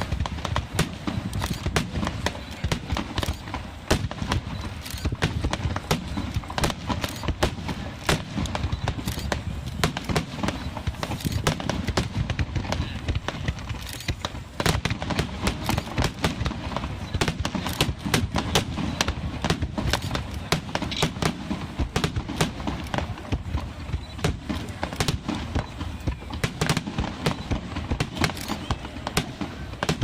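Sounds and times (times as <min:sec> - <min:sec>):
fireworks popping and crackling: 0:00.0 - 0:30.0.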